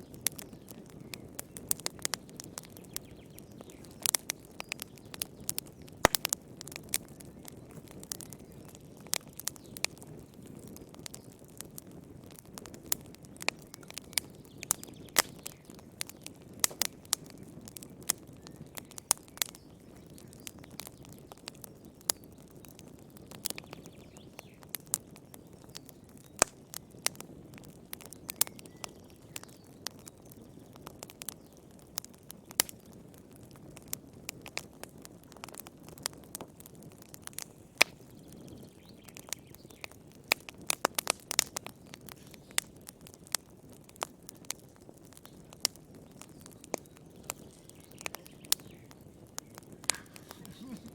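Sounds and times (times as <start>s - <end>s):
burning logs crackling and popping: 0.0s - 50.9s
low rumble of flames: 0.0s - 50.9s.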